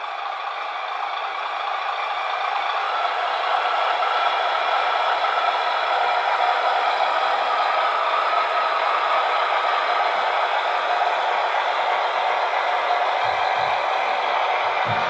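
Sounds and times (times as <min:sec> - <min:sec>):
model truck motor whirring and rattling: 0:01.6 - 0:15.0.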